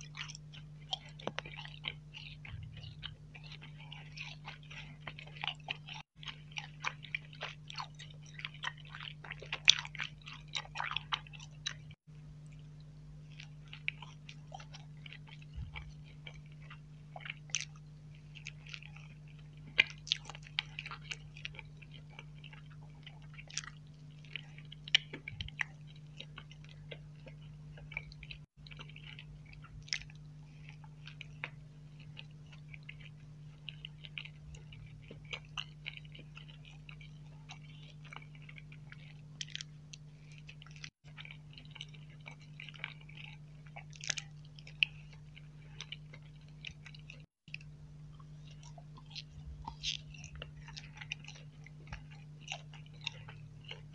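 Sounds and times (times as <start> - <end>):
chewing and mouth sounds: 0.0 - 53.9
steady low hum: 0.0 - 53.9.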